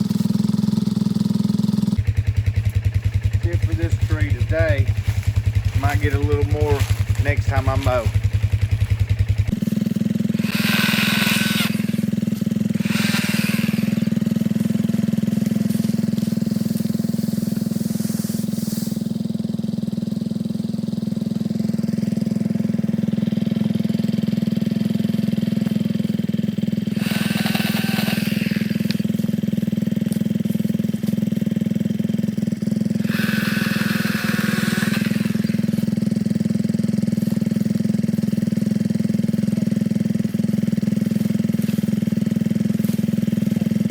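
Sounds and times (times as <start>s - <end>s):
battery chainsaw running: 0.0s - 43.9s.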